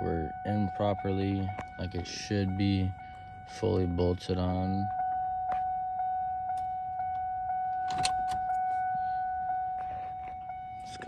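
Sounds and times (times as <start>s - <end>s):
car warning chime pulsing: 0.0s - 11.0s.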